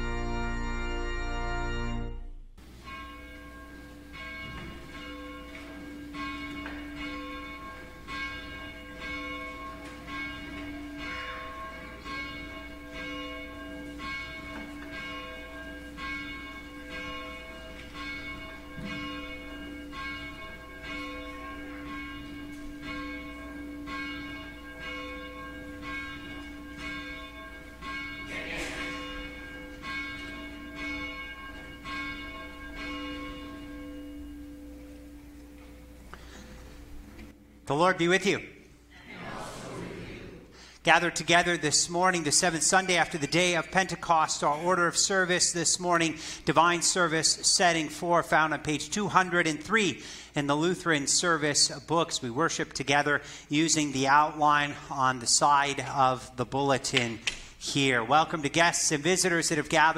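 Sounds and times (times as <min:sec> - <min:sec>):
church bell tolling: 0:00.0 - 0:38.8, 0:40.6 - 0:59.9.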